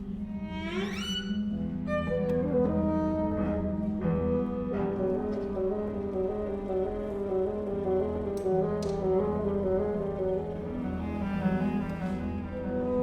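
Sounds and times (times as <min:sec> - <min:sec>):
chamber music with bassoon: 0:00.0 - 0:13.0.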